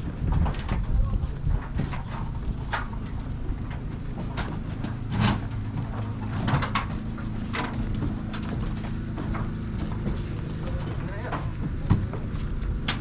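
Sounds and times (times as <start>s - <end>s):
boat engine humming: 0.0s - 13.0s
knocks and clunks: 0.0s - 13.0s.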